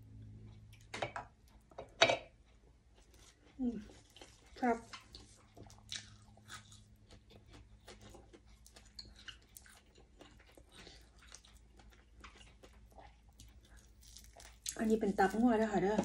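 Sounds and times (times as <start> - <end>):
chewing food: 2.4 - 16.0.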